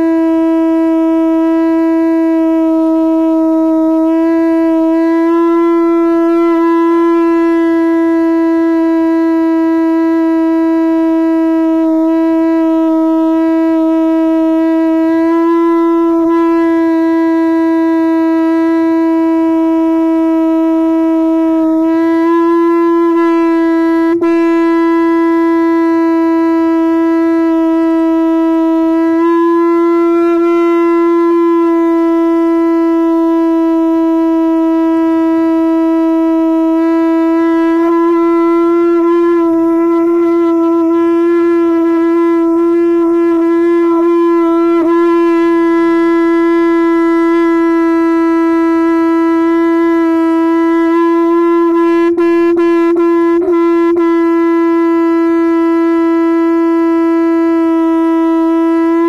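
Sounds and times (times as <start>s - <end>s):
conch shell blown: 0.0s - 59.0s.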